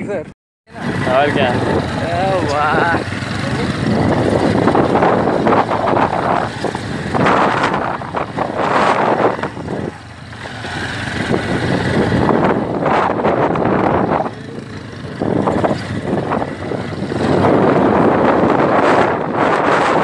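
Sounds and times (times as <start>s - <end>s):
motorcycle engine: 0.7s - 20.0s
wind rushing on microphone: 0.7s - 20.0s.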